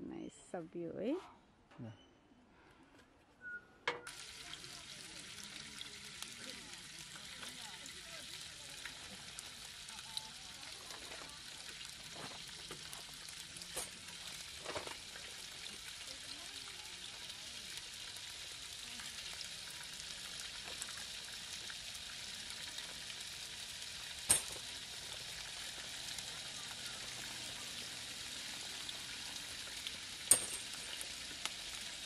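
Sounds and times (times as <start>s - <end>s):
hot dogs sizzling in frying pan: 4.1s - 32.0s.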